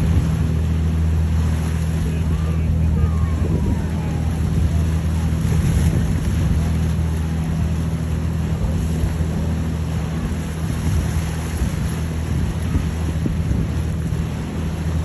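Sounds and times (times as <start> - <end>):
boat engines droning: 0.0 - 15.0
rushing water: 0.0 - 15.0
wind buffeting microphone: 0.0 - 15.0.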